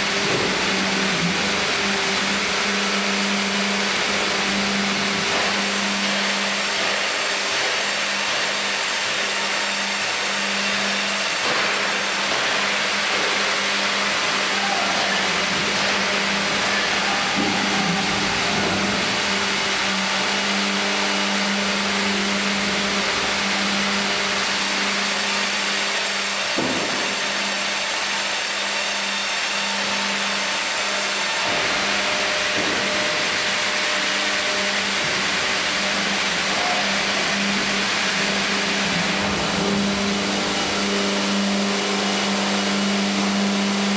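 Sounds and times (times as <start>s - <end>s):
machine hum: 0.0s - 43.9s.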